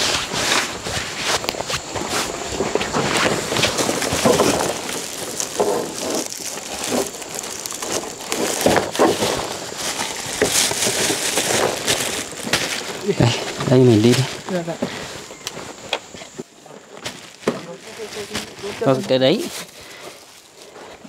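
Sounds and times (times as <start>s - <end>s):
rustling and crunching handling: 0.0s - 21.0s.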